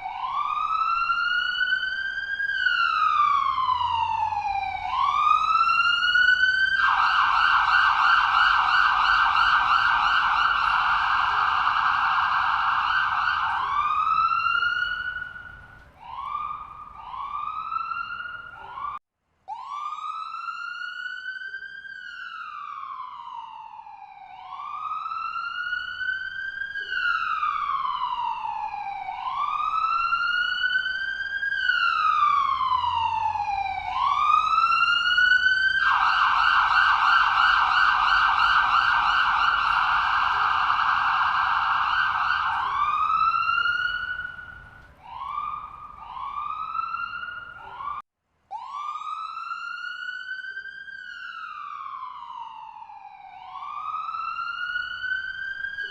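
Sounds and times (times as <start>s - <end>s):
electronic ambulance siren: 0.0s - 55.9s.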